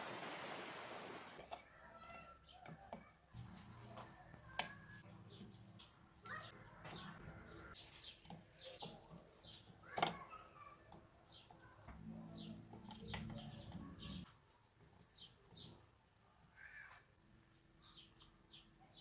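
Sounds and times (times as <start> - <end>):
small birds chirping: 1.6 - 19.0.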